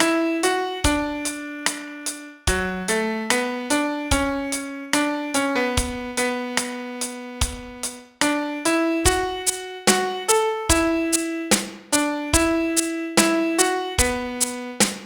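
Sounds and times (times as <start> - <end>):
piano melody single notes: 0.0 - 14.9.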